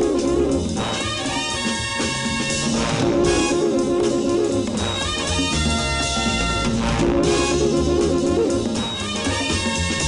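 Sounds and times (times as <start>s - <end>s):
repeating bass line: 0.0s - 10.0s
salsa-like brass music: 0.0s - 10.0s.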